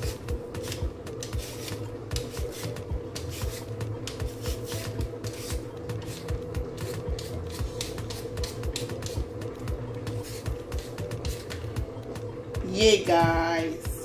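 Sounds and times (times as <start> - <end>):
peeler scraping potato skin: 0.0 - 11.8.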